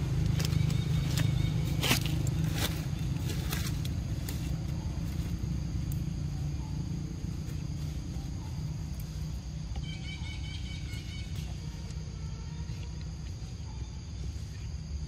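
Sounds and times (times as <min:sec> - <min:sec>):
faint high insect hum: 0:00.0 - 0:15.0.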